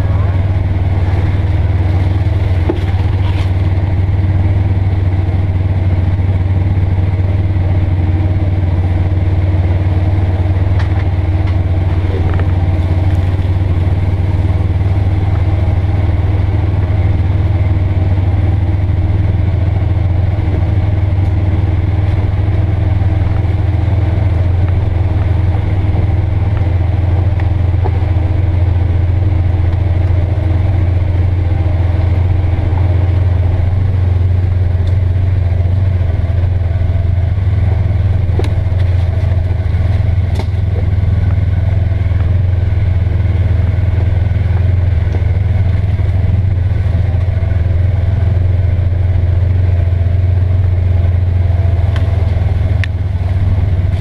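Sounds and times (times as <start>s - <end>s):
engine low drone: 0.0s - 54.0s.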